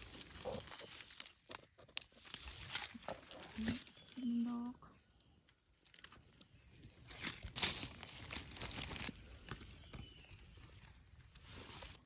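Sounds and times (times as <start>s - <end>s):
dry leaves rustling and crackling: 0.0s - 4.7s, 5.8s - 12.0s.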